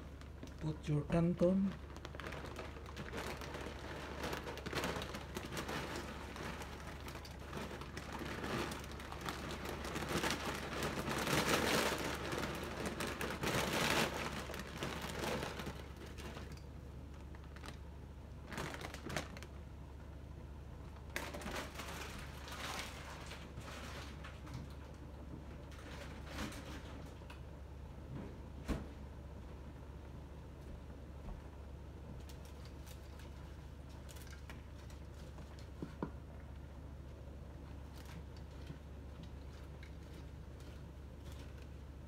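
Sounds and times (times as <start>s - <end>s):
dry noodles crinkling: 0.0s - 20.2s, 20.8s - 27.4s, 32.0s - 42.0s.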